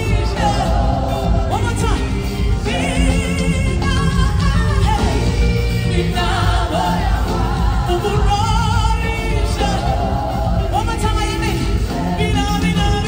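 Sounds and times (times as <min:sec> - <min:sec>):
band playing: 0:00.0 - 0:13.0
singers holding notes: 0:00.0 - 0:13.0.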